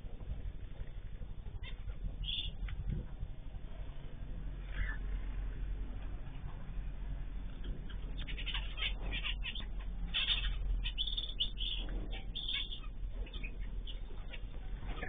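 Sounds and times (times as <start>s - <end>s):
steady low hum: 0.0s - 15.0s
small birds chirping: 0.1s - 15.0s.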